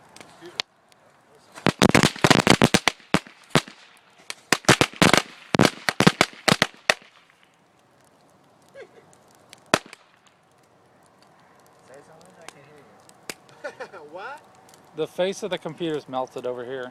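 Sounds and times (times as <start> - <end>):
firecrackers banging: 1.5 - 16.0.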